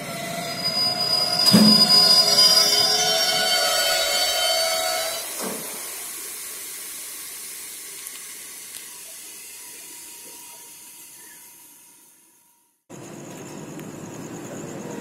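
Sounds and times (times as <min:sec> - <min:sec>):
train wheels hissing: 0:00.0 - 0:13.2.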